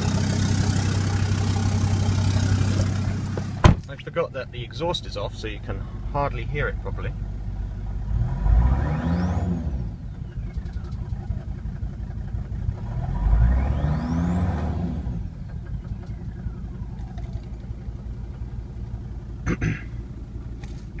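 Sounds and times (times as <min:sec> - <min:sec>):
diesel engine revving: 0:00.0 - 0:21.0.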